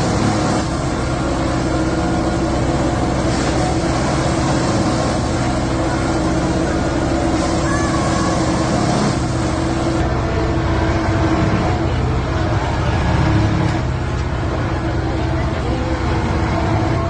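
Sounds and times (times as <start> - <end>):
heavy rumble: 0.0 - 17.0
track machine droning: 0.0 - 17.0.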